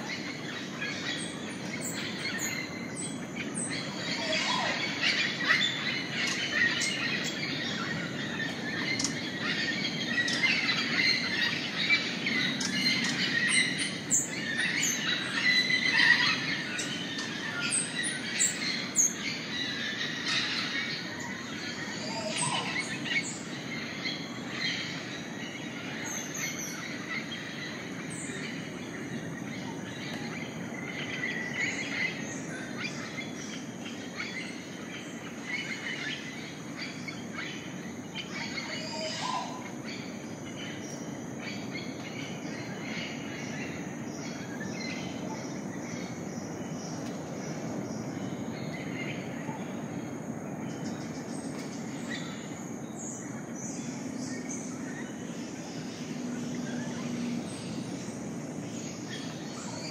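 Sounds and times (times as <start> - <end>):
birds chirping and calling: 0.0 - 59.9
steady background hum: 0.0 - 59.9.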